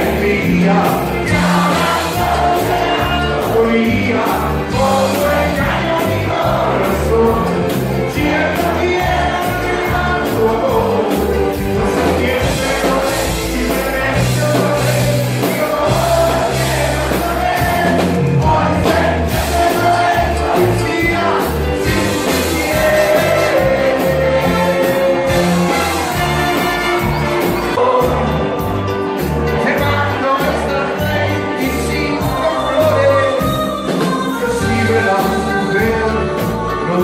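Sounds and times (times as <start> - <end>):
band playing steady beat: 0.0 - 37.0.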